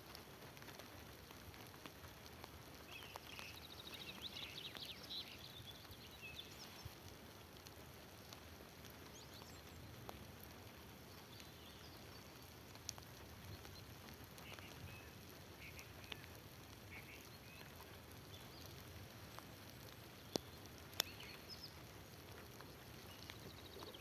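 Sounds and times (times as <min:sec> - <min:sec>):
small birds chirping: 0:02.7 - 0:24.0.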